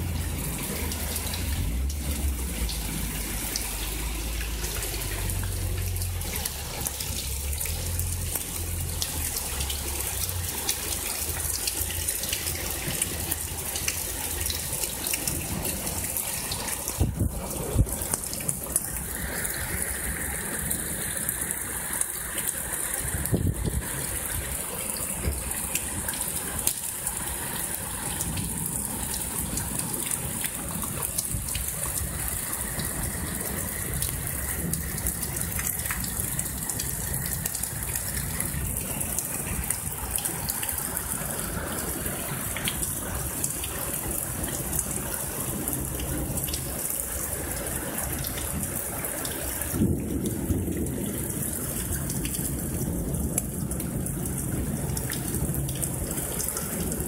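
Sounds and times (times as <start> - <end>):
heavy rain pouring: 0.0 - 57.0
raindrops ticking on surfaces: 0.0 - 57.0.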